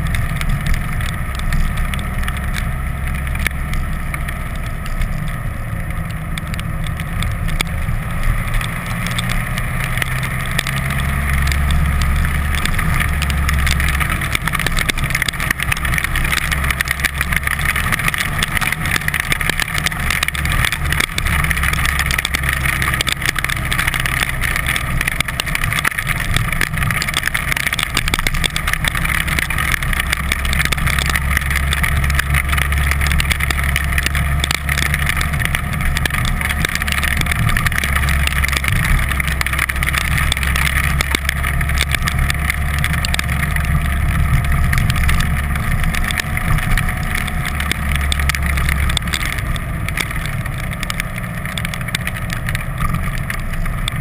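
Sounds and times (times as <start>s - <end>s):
tyres hissing on wet road: 0.0s - 54.0s
vehicle engine drone: 0.0s - 54.0s.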